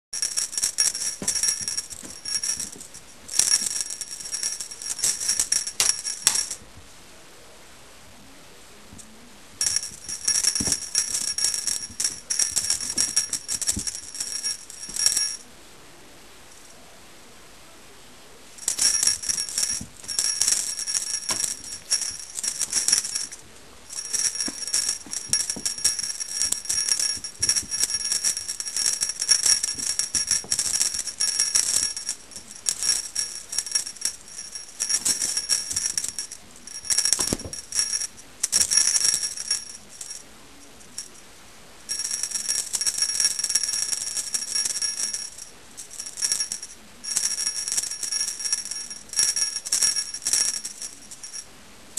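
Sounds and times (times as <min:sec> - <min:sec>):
small bell jingling: 0:00.2 - 0:06.6, 0:09.6 - 0:15.4, 0:18.6 - 0:40.2, 0:40.8 - 0:41.2, 0:41.9 - 0:51.4.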